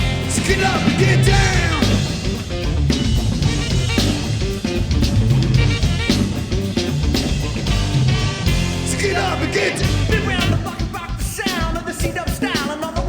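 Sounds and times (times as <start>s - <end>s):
bass guitar: 0.0s - 11.3s
electric guitar: 0.0s - 11.5s
drum kit beat: 0.0s - 13.0s.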